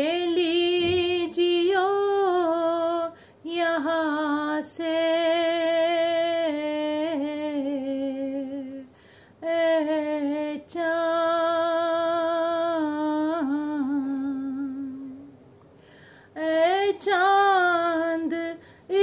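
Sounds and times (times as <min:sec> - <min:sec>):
woman chanting: 0:00.0 - 0:15.3, 0:16.4 - 0:19.0.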